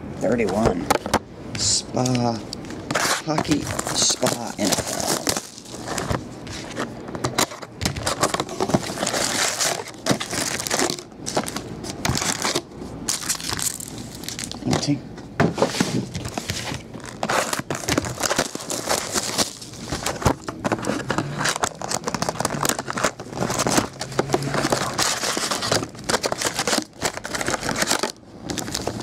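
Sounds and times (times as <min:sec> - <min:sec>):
foil packs crinkling: 0:02.0 - 0:15.0, 0:16.1 - 0:29.0
plastic wrap crinkling and tearing: 0:02.7 - 0:14.7, 0:16.2 - 0:29.0.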